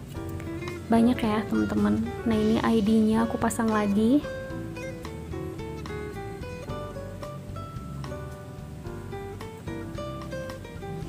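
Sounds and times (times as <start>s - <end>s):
plucked instrumental melody: 0.0s - 11.0s.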